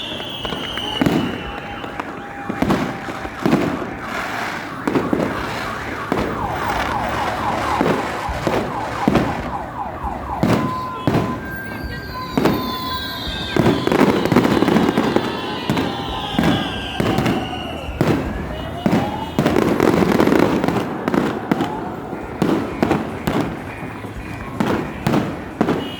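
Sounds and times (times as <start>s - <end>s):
falling firework whistles: 0.0s - 23.7s
fireworks bursting: 0.0s - 25.9s.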